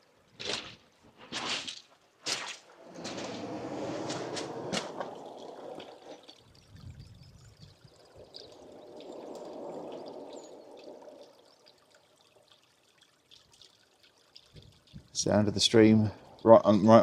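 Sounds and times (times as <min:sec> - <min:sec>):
stream trickling over stones: 0:00.0 - 0:17.0.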